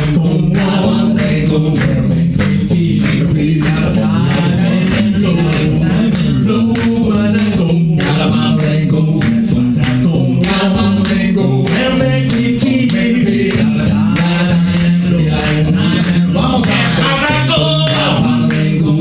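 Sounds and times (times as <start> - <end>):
men singing a cappella: 0.0 - 19.0.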